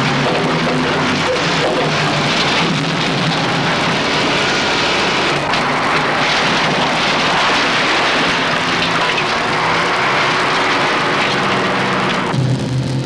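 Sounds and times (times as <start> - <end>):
masonry and timber crashing down: 0.0 - 12.6
machine engine running: 0.0 - 13.0.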